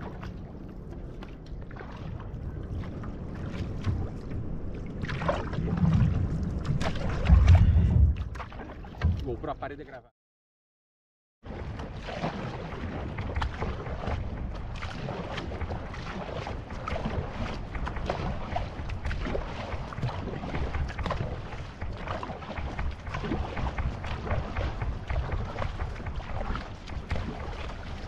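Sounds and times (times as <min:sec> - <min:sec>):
wind rumbling on microphone: 0:00.0 - 0:09.3, 0:11.5 - 0:28.0
water splashing and rushing: 0:00.0 - 0:10.0, 0:11.4 - 0:28.0.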